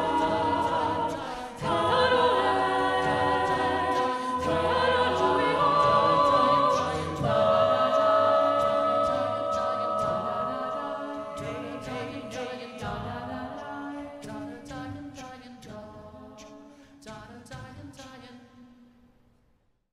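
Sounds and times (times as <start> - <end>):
a cappella vocal ensemble singing: 0.0 - 19.0.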